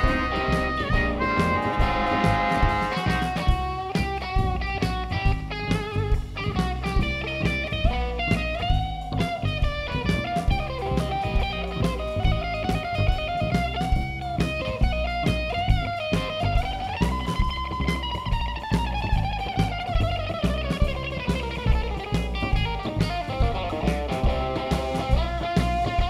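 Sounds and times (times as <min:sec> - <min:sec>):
drums: 0:00.0 - 0:26.0
electric guitar lead: 0:00.0 - 0:26.0
upright bass: 0:00.0 - 0:26.0.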